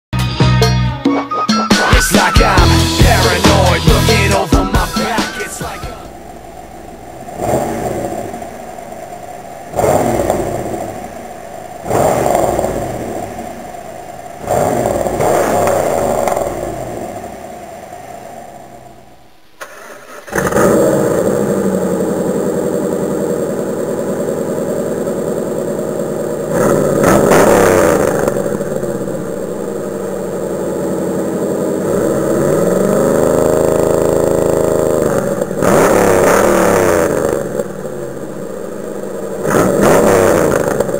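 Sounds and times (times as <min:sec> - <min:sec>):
car engine revving: 0:01.7 - 0:40.9.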